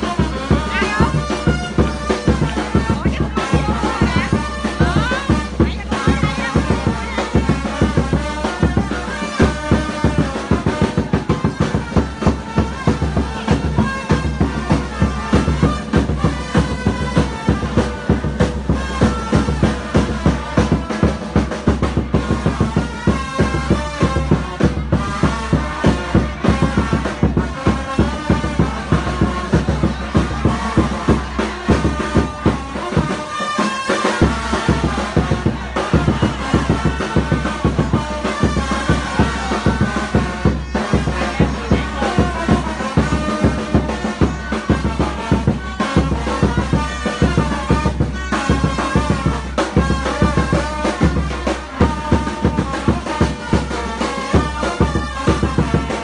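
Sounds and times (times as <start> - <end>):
loud music with fast drum beat: 0.0 - 56.0.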